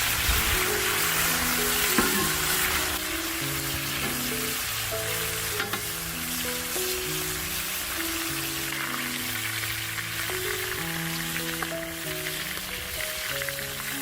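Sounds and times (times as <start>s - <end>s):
meat and vegetables sizzling: 0.0s - 14.0s
soft background music: 0.0s - 14.0s.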